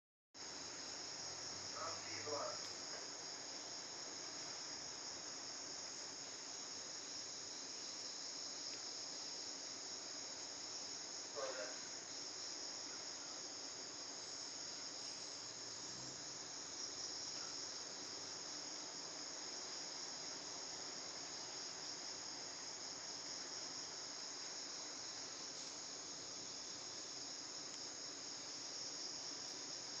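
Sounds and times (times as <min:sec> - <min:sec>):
insects chirring: 0:00.4 - 0:30.0.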